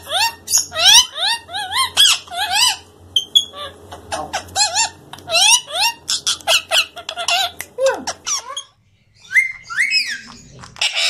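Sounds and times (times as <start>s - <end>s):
parakeet chattering: 0.0s - 11.0s.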